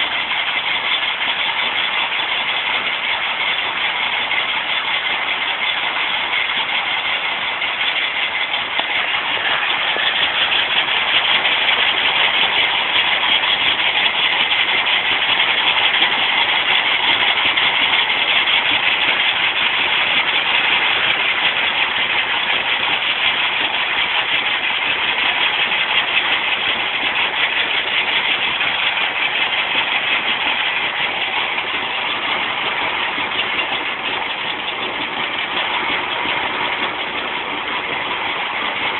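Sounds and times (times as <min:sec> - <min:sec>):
stone crusher machine running: 0:00.0 - 0:38.9.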